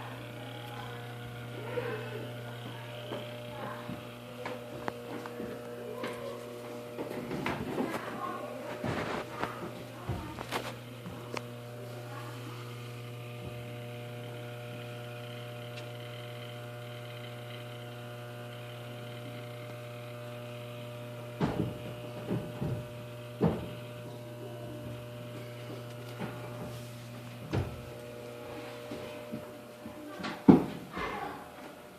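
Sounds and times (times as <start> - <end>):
washing machine humming: 0.0 - 31.9.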